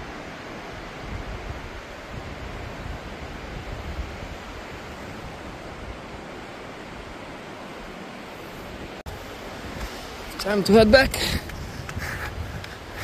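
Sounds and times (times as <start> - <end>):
river water rushing: 0.0 - 13.0
wind buffeting microphone: 0.8 - 7.3, 8.5 - 13.0.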